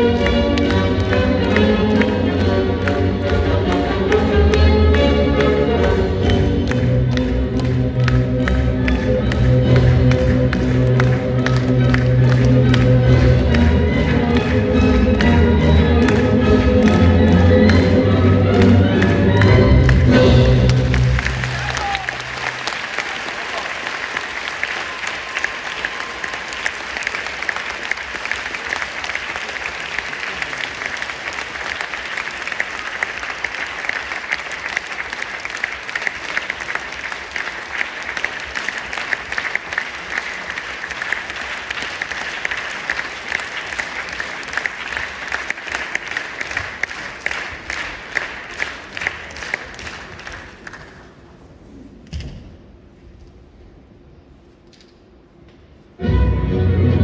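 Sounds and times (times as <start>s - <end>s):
audience applauding: 0.0s - 51.3s.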